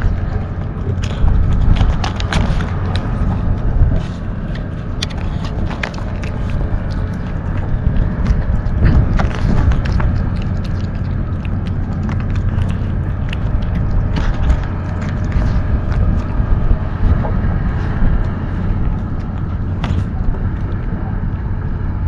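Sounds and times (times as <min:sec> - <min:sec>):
kitten crunching dry kibble: 0:00.0 - 0:22.0
steady low rumble: 0:00.0 - 0:22.0.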